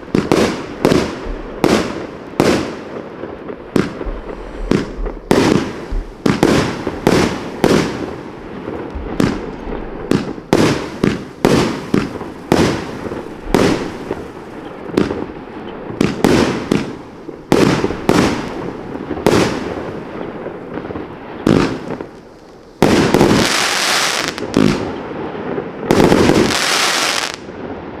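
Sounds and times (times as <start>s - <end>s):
firework shots and bursts: 0.0s - 28.0s.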